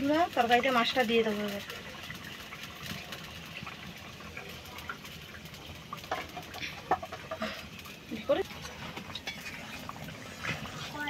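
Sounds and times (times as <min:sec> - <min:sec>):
curry bubbling and popping: 0:00.0 - 0:11.0.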